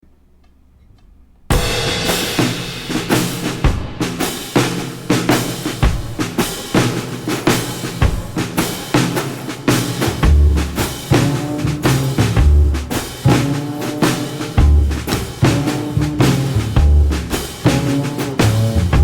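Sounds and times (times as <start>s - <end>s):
music with drum beat: 1.5s - 19.0s.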